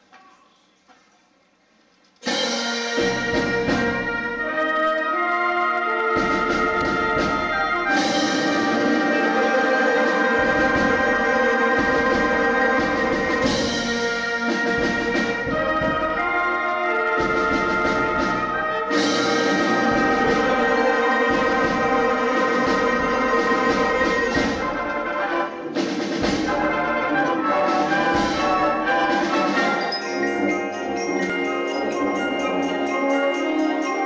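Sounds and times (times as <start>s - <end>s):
concert band playing: 2.2s - 34.0s.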